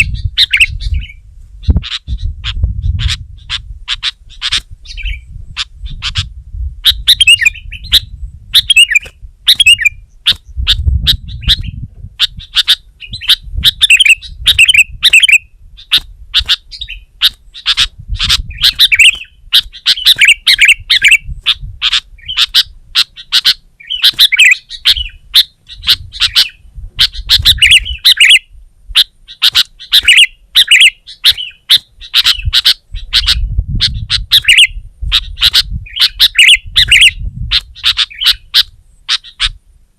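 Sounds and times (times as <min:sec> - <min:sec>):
bird singing chirps and warbles: 0:00.0 - 0:39.7.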